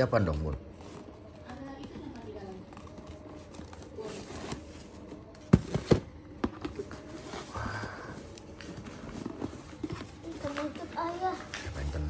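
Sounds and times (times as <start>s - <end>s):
shopping tote rustling: 0.7s - 11.8s.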